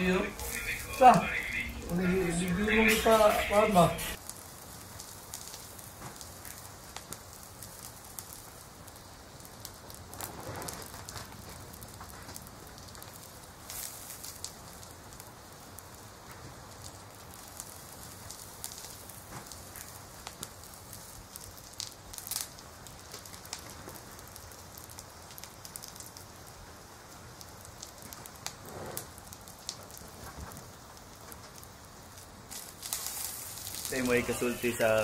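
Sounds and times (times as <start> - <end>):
charcoal fire crackling and popping: 0.0 - 35.0
meat sizzling on a grill: 0.0 - 35.0.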